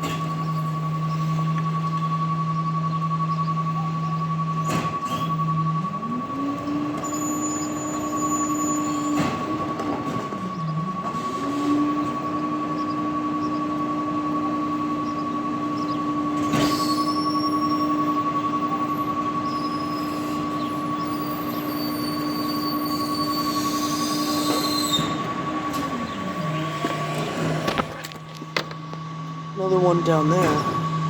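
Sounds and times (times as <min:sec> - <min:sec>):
truck engine revving: 0:00.0 - 0:31.0
high squeals: 0:00.3 - 0:09.7, 0:10.4 - 0:27.7.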